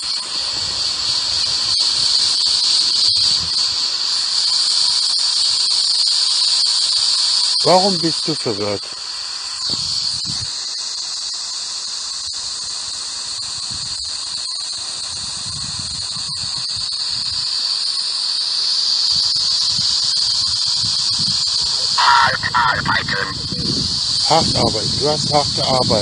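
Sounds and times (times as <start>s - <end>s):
high-pitched whistling static hiss: 0.0s - 26.0s.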